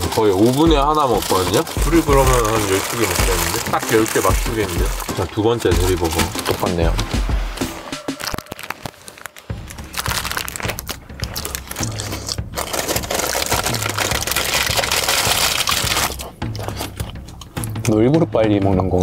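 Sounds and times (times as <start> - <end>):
paper wrapper crinkling: 0.0 - 16.9
background music: 0.0 - 19.0.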